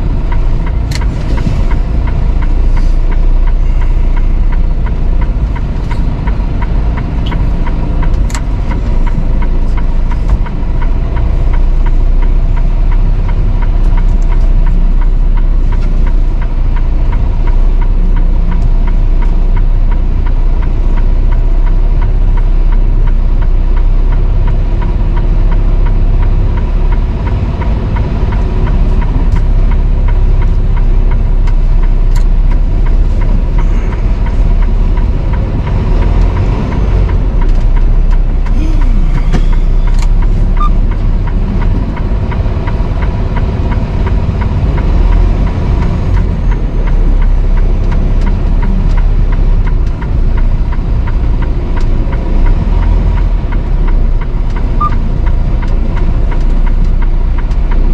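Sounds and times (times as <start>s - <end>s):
road noise: 0.0s - 57.9s
truck diesel engine rumble: 0.0s - 57.9s.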